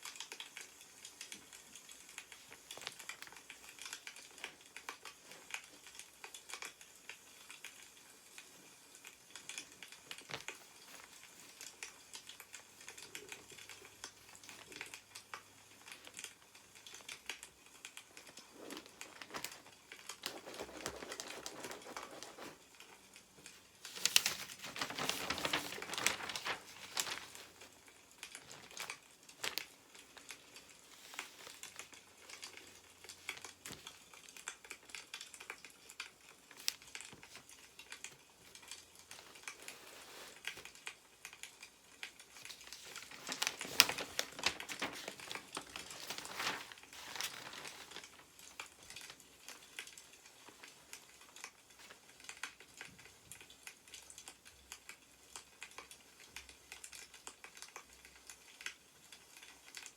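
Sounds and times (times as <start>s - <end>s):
newspaper rustling and crinkling: 0.0s - 8.5s, 9.1s - 52.7s
small clicks and crackles: 0.0s - 59.9s.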